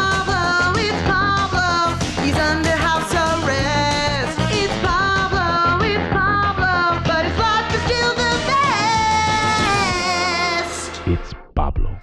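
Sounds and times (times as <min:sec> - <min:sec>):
upbeat sung theme song with band: 0:00.0 - 0:11.2.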